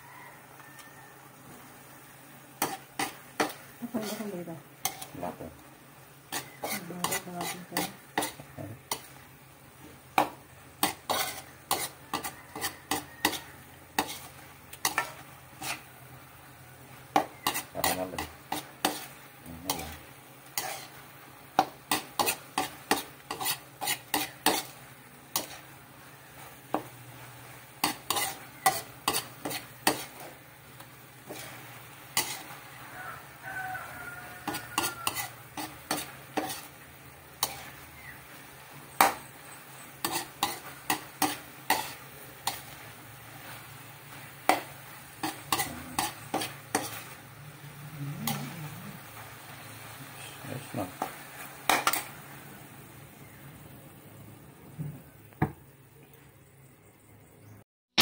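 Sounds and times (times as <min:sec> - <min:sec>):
meat sizzling: 0:00.0 - 0:56.2
utensil scraping a frying pan: 0:02.6 - 0:05.4, 0:06.2 - 0:09.2, 0:10.2 - 0:16.2, 0:16.9 - 0:52.5.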